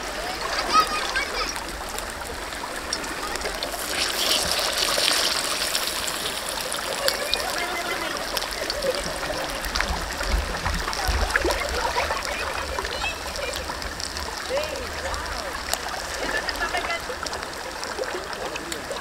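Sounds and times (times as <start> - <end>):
river water flowing: 0.0 - 19.0
fish sizzling in hot oil: 0.6 - 19.0.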